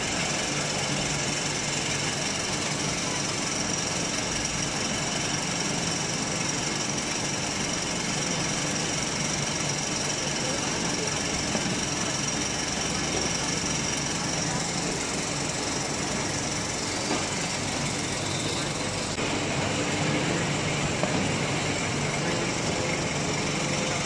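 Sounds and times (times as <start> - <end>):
baler machine drone: 0.0 - 24.0
high machine whine: 0.0 - 24.0.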